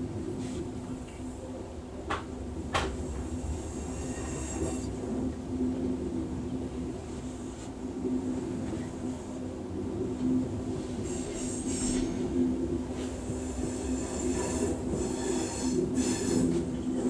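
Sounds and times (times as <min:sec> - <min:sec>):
train rumble with low hum: 0:00.0 - 0:17.0.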